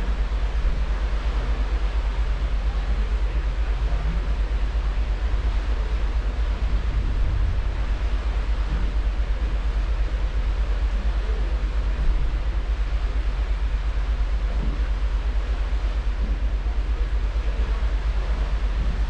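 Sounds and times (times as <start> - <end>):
ship machinery rumble: 0.0 - 19.0
ship wake churning: 0.0 - 19.0
wind on microphone: 0.0 - 19.0.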